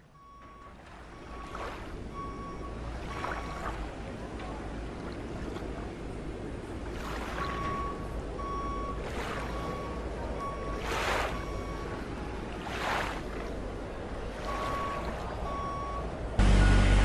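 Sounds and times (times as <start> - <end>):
rushing water wash: 0.7 - 17.0.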